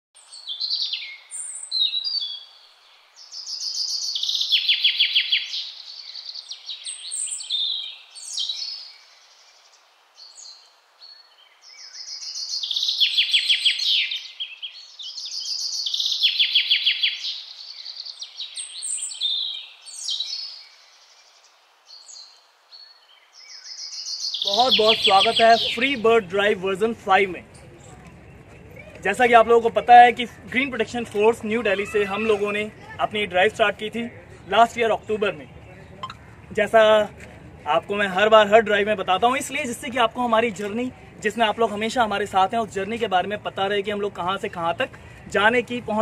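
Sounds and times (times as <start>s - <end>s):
songbird chirping and trilling: 0.2s - 46.0s.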